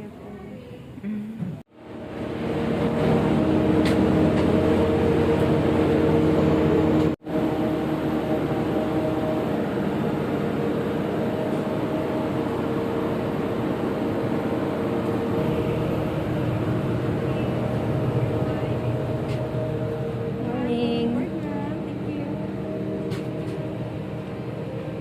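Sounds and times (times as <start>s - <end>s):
vehicle engine and cabin drone: 0.0s - 25.0s.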